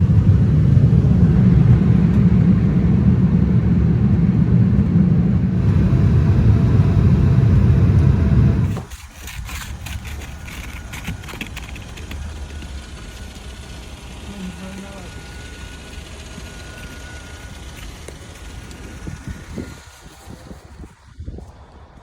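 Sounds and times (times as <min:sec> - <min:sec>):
vehicle low rumble: 0:00.0 - 0:20.6
engine crackles: 0:00.0 - 0:21.0.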